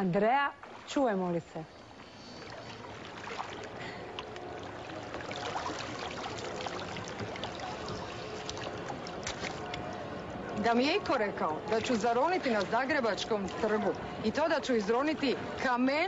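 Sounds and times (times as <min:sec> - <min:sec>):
water sloshing and splashing: 0:00.0 - 0:16.0
faint murmur of people: 0:01.7 - 0:16.0.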